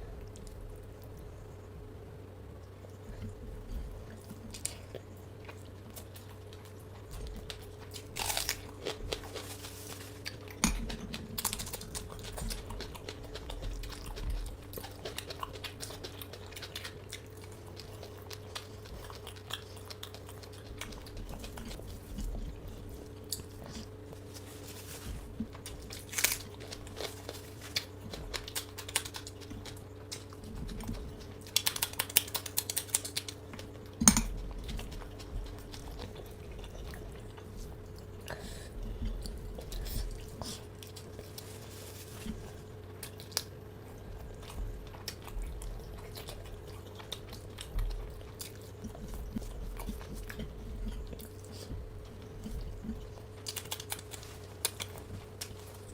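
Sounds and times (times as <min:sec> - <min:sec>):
chewing crunchy fried food: 0:00.0 - 0:55.9.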